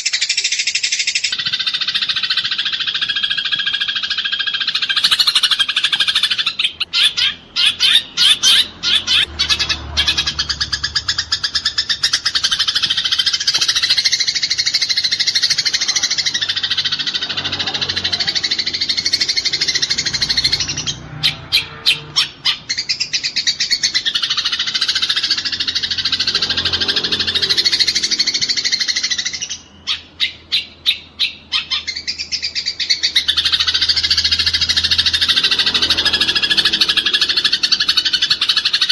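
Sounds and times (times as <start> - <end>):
sharp sparrow chirps: 0.0 - 38.9
sparrows chattering: 0.0 - 38.9.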